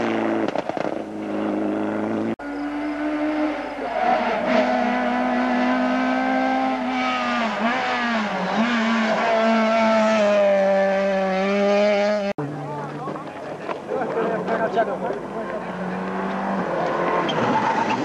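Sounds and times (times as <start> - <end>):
rally car engine at high revs: 0.0 - 12.3, 14.3 - 18.0.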